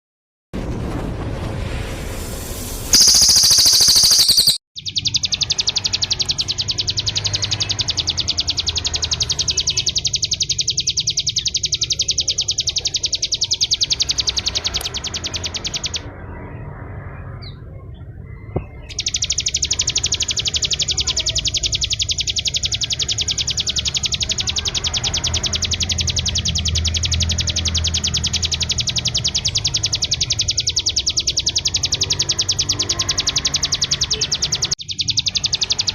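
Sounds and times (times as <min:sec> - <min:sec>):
high-pitched bird call burst: 0:02.9 - 0:16.1, 0:18.9 - 0:35.9
bird singing rapid trill: 0:02.9 - 0:35.9.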